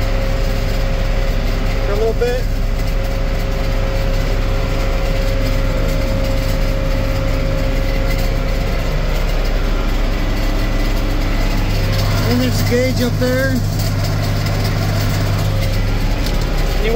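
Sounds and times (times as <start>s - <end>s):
diesel engine running under load: 0.0s - 16.9s
steady whine: 0.0s - 16.9s.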